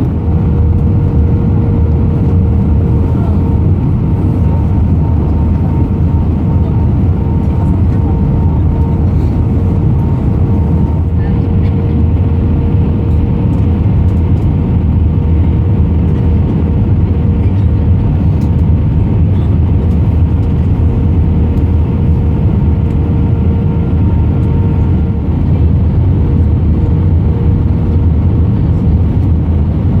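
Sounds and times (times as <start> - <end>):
constant hum: 0.0 - 30.0
jet engine cabin rumble: 0.0 - 30.0.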